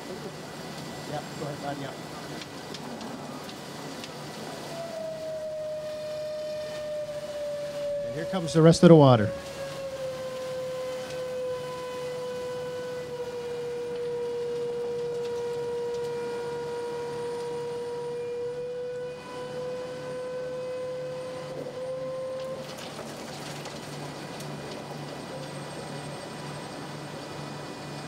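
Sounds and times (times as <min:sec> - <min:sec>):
high machinery whine: 0:00.0 - 0:28.0
low pulsing running hum: 0:00.0 - 0:28.0.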